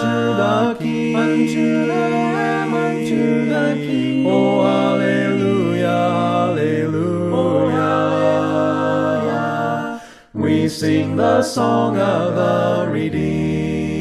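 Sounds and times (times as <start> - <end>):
choir singing a hymn a cappella: 0.0 - 14.0.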